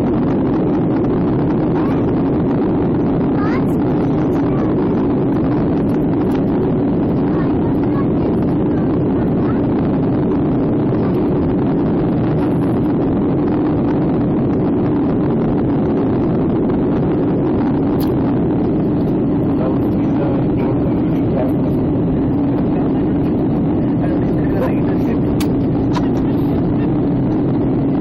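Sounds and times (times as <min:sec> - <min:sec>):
jet engines droning: 0:00.0 - 0:28.0.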